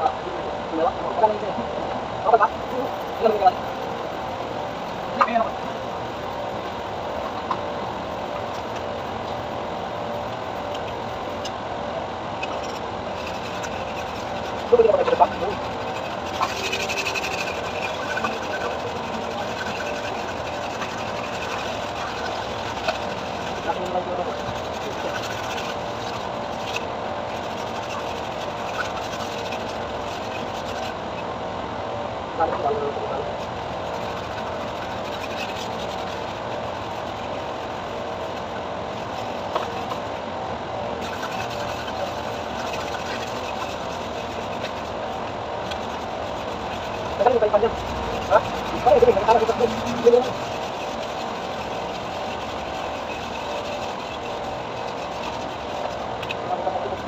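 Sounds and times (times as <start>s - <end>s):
mechanical drone: 0.0s - 57.0s.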